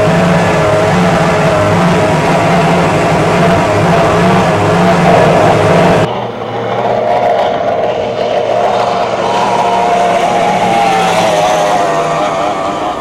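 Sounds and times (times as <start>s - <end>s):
powerboat engine droning: 0.0s - 13.0s.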